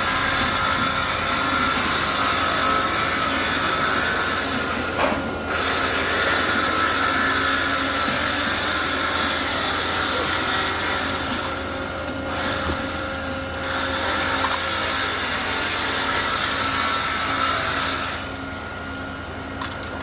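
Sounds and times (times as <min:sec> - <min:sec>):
machinery hiss: 0:00.0 - 0:18.5
machinery whine: 0:00.0 - 0:20.0.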